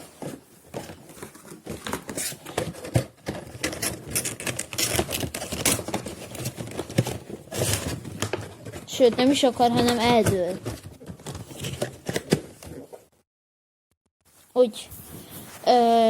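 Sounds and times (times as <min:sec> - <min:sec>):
small objects rustling and clicking: 0:00.0 - 0:12.9.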